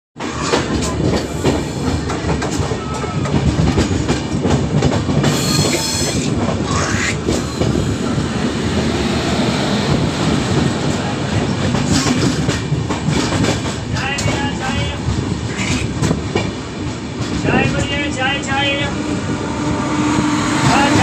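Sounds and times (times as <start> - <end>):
wheels clacking over rail joints: 0.2 - 8.9, 9.9 - 18.6
train rumble: 0.2 - 21.0.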